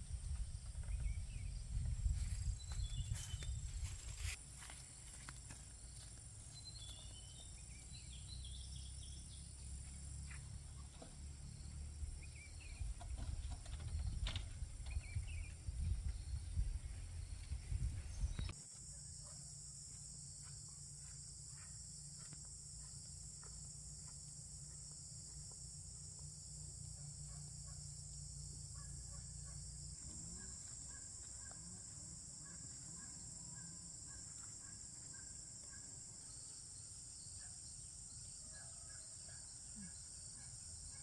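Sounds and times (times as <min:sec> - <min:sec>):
insects chorus: 0:00.0 - 0:41.0.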